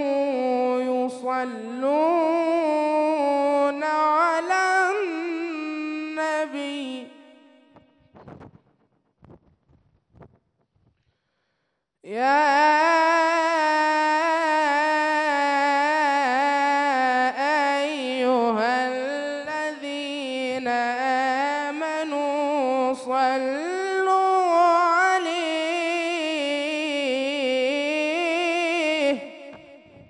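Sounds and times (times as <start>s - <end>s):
man chanting unaccompanied: 0.0s - 8.0s, 12.1s - 30.0s.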